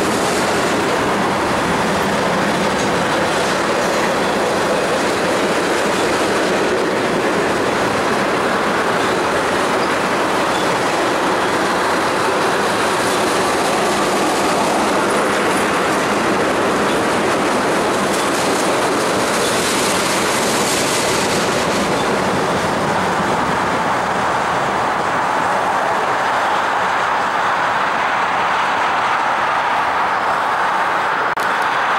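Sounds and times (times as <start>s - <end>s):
wheels clickety-clack over joints: 0.0s - 27.3s
freight train rumbling past: 0.0s - 31.9s.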